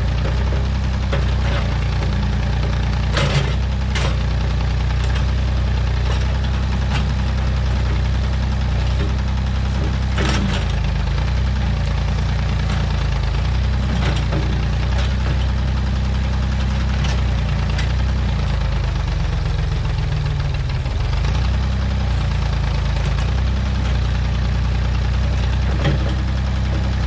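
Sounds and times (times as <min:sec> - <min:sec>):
backhoe engine running: 0:00.0 - 0:27.0.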